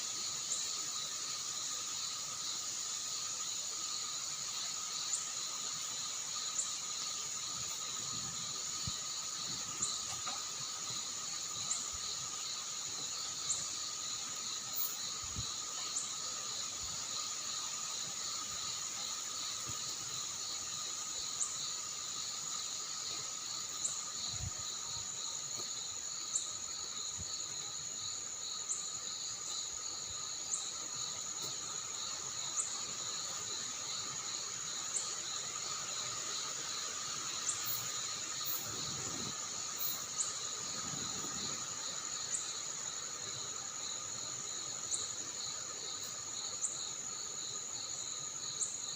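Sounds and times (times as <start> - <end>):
crickets and insects trilling: 0.0 - 48.9.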